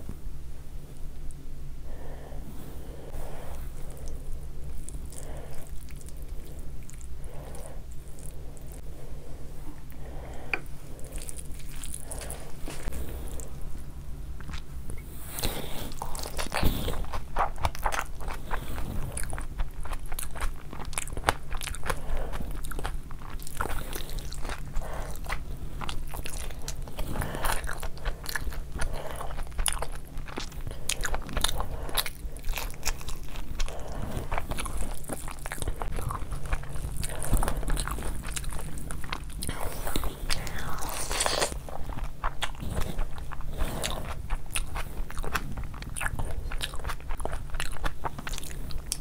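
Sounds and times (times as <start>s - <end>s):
chewing with wet mouth clicks: 3.8s - 8.8s, 9.7s - 49.0s.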